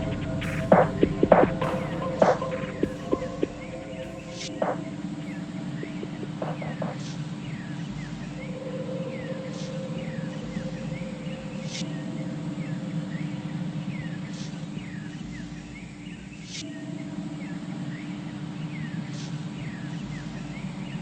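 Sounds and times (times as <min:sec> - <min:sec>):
low droning music bed: 0:00.0 - 0:21.0.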